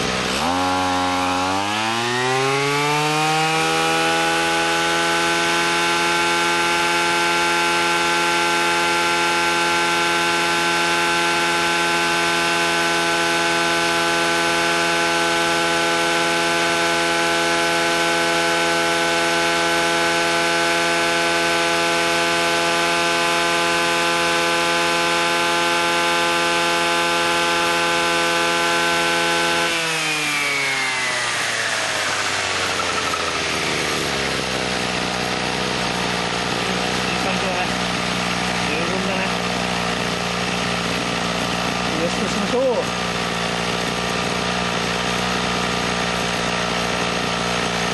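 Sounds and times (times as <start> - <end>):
brush cutter engine running: 0.0 - 47.9.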